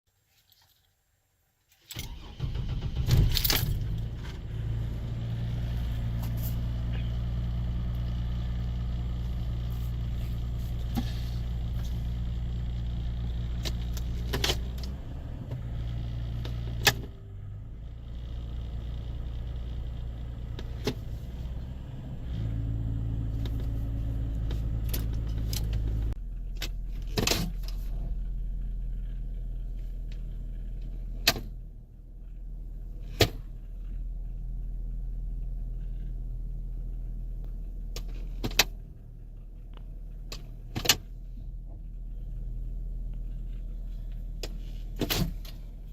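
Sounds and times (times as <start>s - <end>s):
car engine droning hum: 2.1s - 45.9s.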